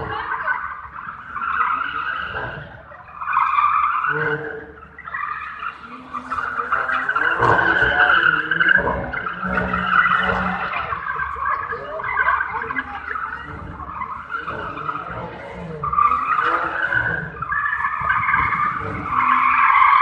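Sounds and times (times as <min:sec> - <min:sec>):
tyres squealing: 0:00.0 - 0:20.0.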